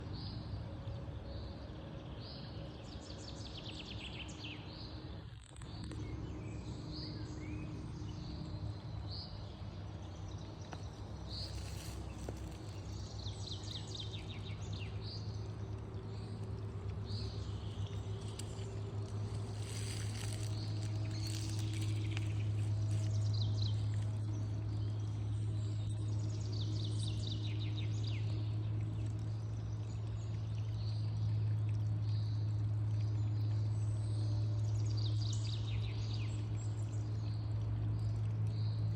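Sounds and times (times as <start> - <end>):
songbirds chirping and trilling: 0.0 - 38.9
steady low hum: 4.5 - 38.9.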